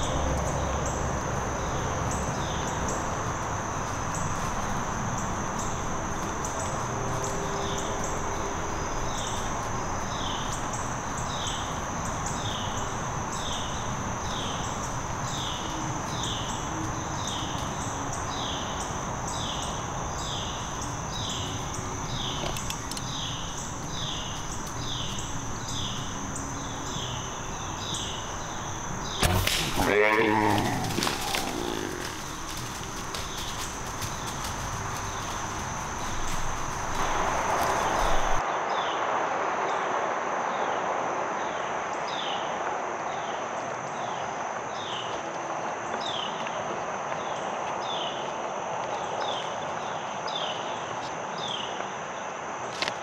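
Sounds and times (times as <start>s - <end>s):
insects droning: 0.0s - 53.0s.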